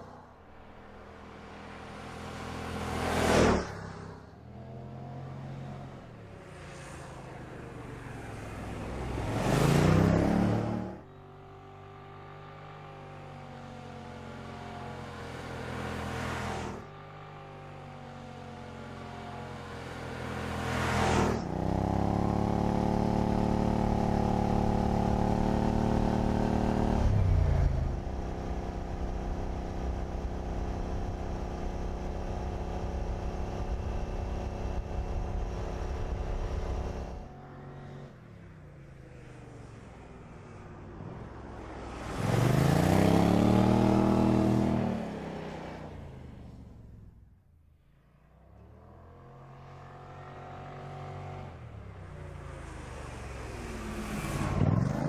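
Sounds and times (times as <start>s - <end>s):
car engines passing by: 0.0s - 55.0s.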